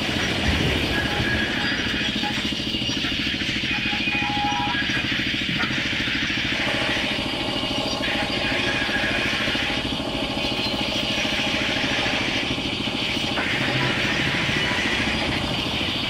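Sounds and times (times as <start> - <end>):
saw cutting timber: 0.0 - 16.0
sawmill machinery pulsing: 0.0 - 16.0.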